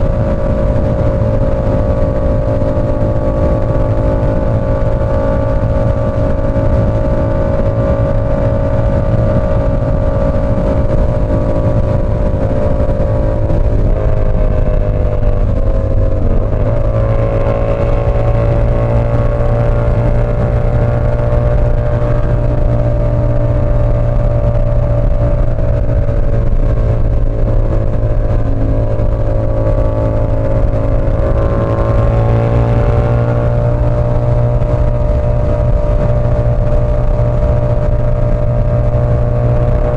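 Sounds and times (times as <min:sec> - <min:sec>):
motorcycle engine at cruising speed: 0:00.0 - 0:39.9.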